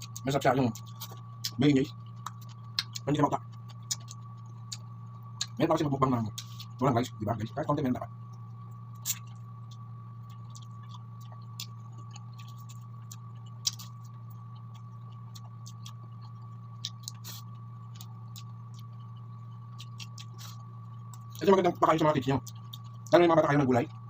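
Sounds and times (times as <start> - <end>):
chewing fried chicken: 0.0 - 7.6, 8.2 - 24.0
steady low hum: 0.0 - 24.0.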